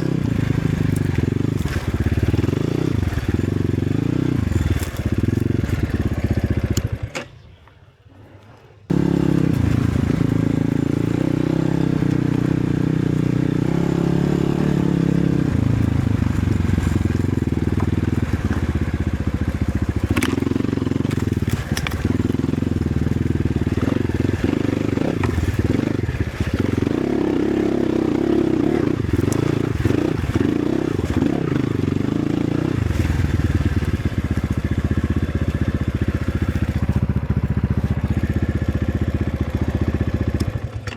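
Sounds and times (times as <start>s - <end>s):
motorcycle engine running: 0.0s - 7.5s, 8.9s - 40.9s.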